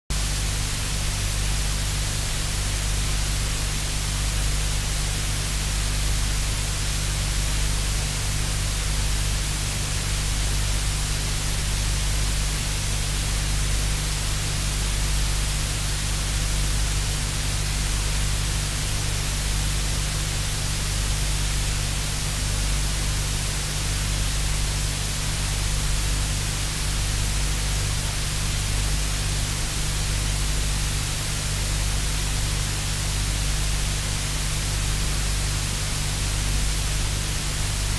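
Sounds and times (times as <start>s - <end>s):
static hiss: 0.2s - 37.9s.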